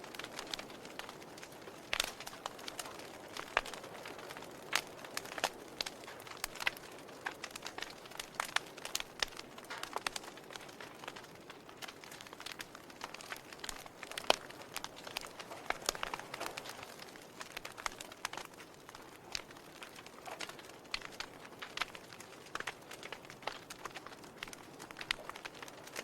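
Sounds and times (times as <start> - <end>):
fire popping: 0.0 - 26.0
logs crackling in fireplace: 0.0 - 26.0.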